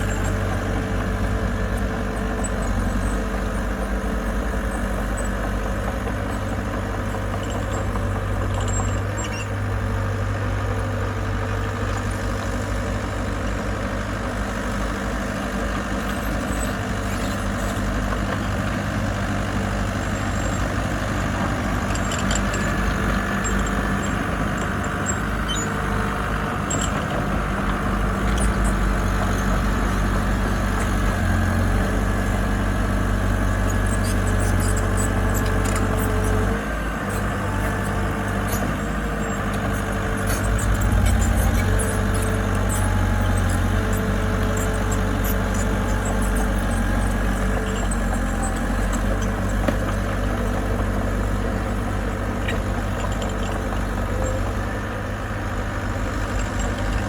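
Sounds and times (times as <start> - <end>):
heavy machinery engine droning: 0.0 - 57.0.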